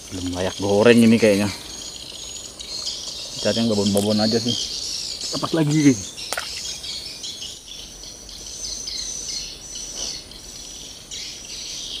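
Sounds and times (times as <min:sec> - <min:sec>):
birds chirping: 0:00.0 - 0:12.0
insects chirping: 0:00.0 - 0:12.0.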